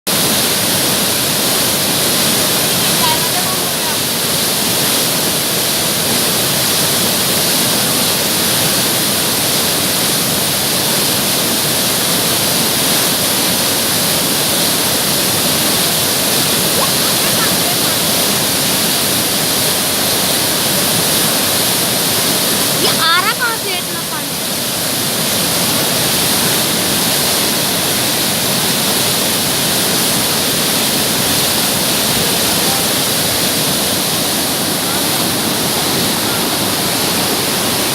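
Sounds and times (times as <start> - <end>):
fast-flowing river water rushing: 0.1 - 37.9.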